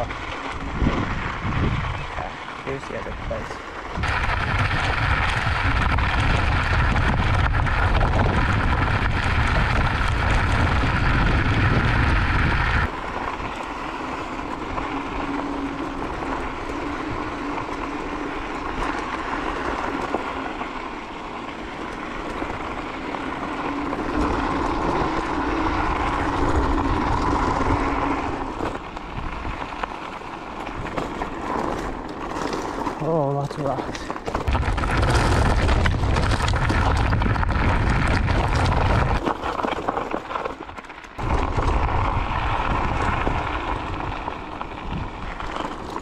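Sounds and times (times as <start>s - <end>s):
tyres rolling over gravel trail: 0.0s - 46.0s
wind rumble on microphone: 0.0s - 46.0s.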